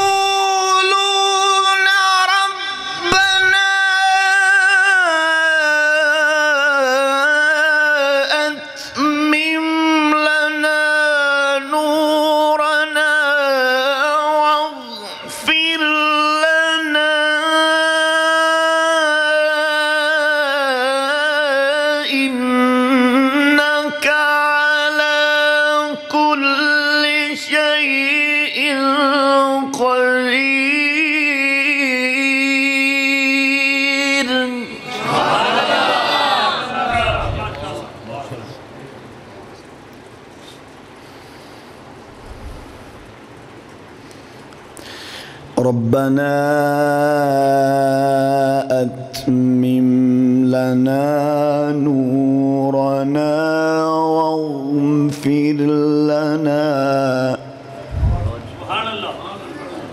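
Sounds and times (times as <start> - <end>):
man reciting melodically: 0.0 - 38.7, 45.4 - 59.9.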